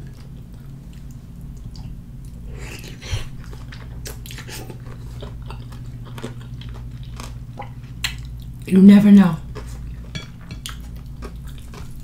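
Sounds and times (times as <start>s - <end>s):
person chewing food: 0.0s - 8.7s, 9.4s - 12.0s
steady low hum: 0.0s - 12.0s.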